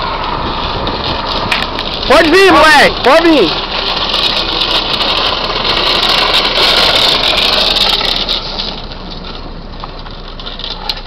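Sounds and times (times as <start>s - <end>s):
plastic wheels sliding on asphalt: 0.0s - 11.0s.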